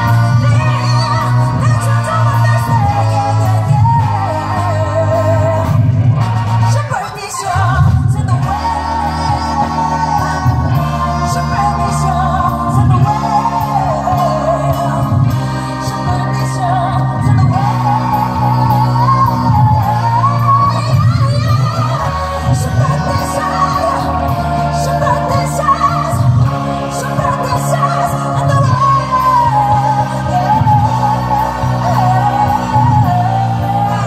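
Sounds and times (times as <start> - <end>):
woman singing into a microphone: 0.0 - 6.1, 6.7 - 34.0
live amplified band: 0.0 - 34.0.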